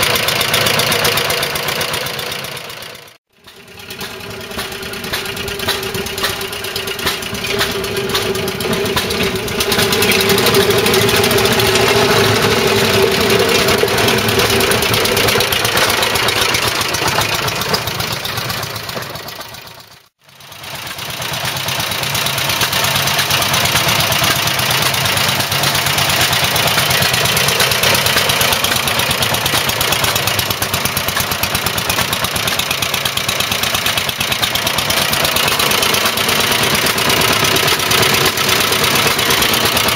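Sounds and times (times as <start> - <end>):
motor mower engine running: 0.0 - 39.9.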